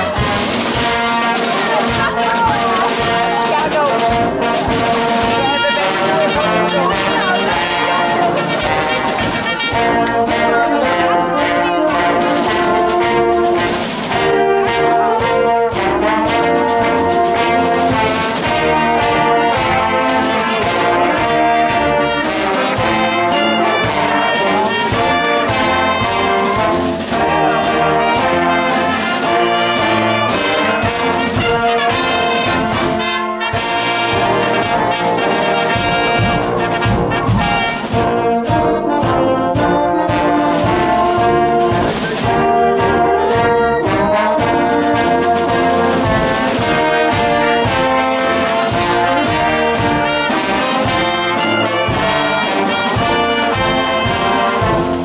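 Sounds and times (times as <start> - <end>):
bass drum beat: 0.0 - 55.0
brass band playing: 0.0 - 55.0
marching snare drums: 0.0 - 55.0.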